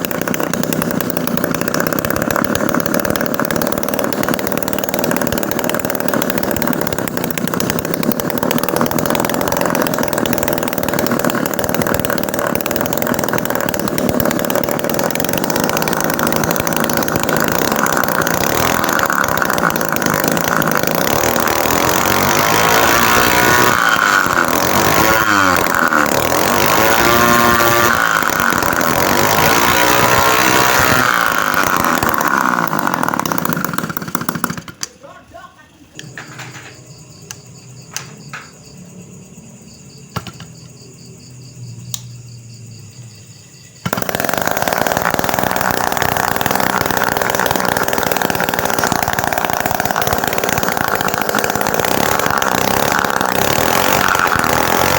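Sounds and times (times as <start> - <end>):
miniature two-stroke engine running: 0.0 - 38.5, 40.1 - 40.7, 43.6 - 54.9.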